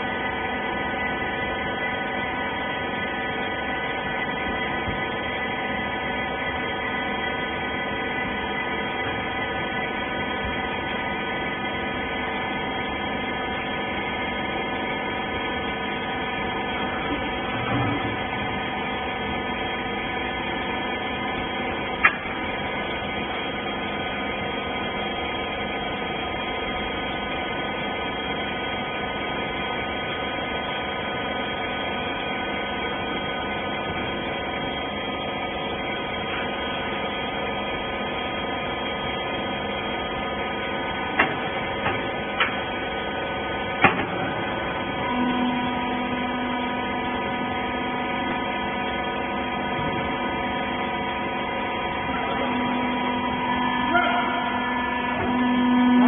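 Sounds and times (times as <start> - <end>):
baler mechanical hum: 0.0 - 56.0.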